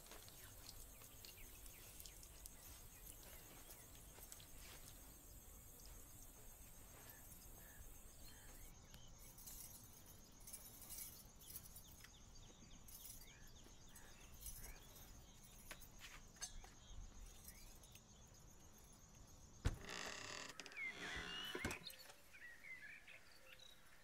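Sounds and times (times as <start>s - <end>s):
high steady insect trill: 0.0s - 24.0s
small repeated insect chirps: 0.0s - 24.0s.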